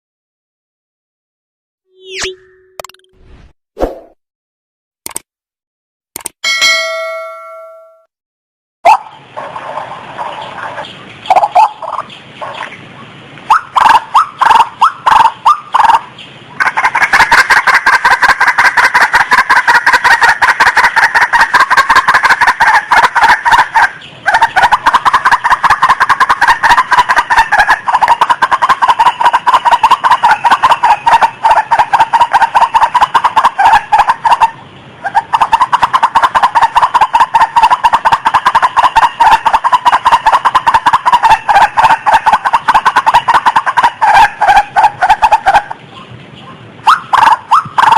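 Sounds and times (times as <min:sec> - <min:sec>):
rail calling: 0:06.4 - 0:08.1, 0:08.8 - 0:47.9.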